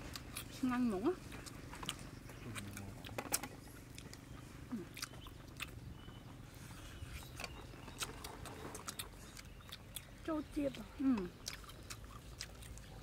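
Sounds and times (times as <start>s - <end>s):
people chewing and lip-smacking: 0.0s - 13.0s.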